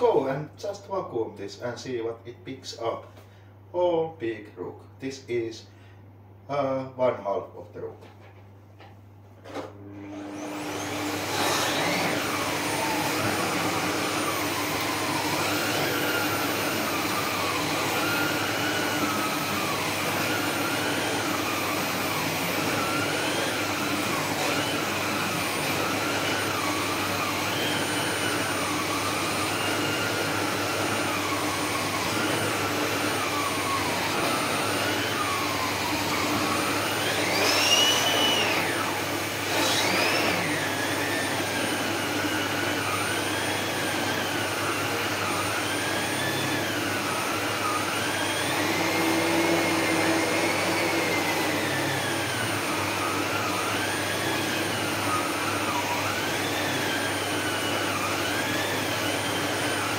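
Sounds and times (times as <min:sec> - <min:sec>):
vacuum cleaner whine on rug: 0:09.4 - 0:59.9.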